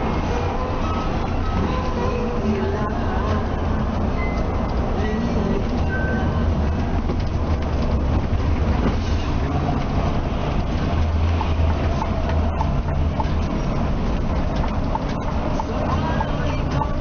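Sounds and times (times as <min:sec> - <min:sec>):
coach engine and road drone: 0:00.0 - 0:17.0.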